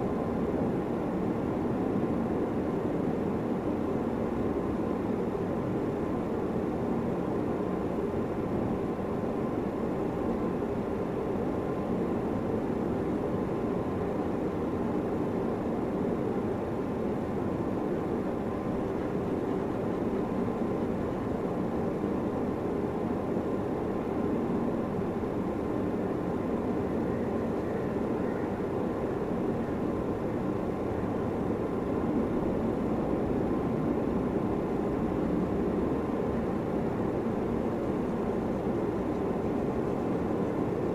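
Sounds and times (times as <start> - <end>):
faint steady tone: 0.0 - 40.9
low rushing background noise: 0.0 - 40.9.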